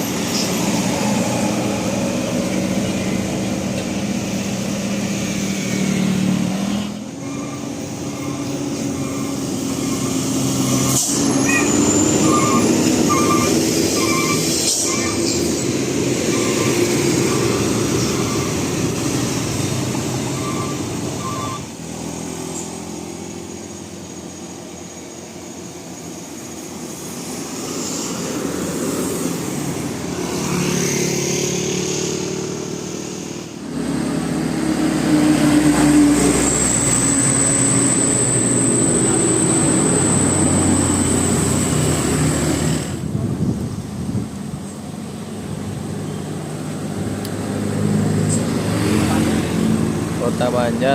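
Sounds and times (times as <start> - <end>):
heavy traffic rumble: 0.0 - 50.9.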